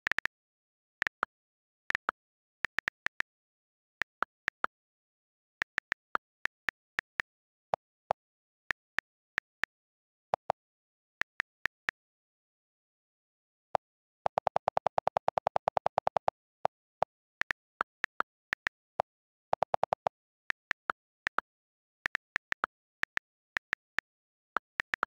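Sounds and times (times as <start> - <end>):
on-screen keyboard clicks: 1.0 - 11.9, 14.2 - 25.0.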